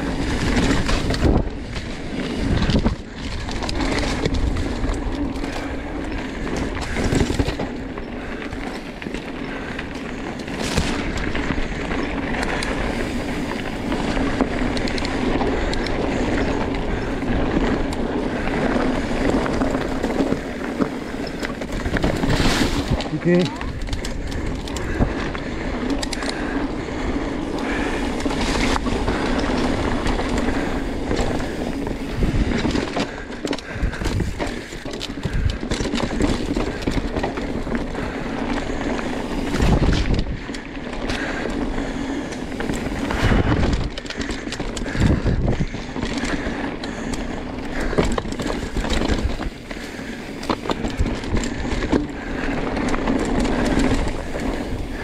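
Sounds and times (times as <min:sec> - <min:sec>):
bike knocking and rattling: 0:00.0 - 0:55.0
bike tyres rolling on dirt: 0:00.0 - 0:55.0.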